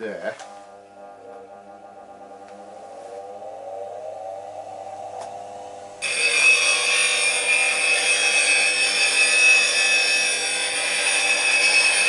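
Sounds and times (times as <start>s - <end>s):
bench grinder humming: 0.4s - 12.0s.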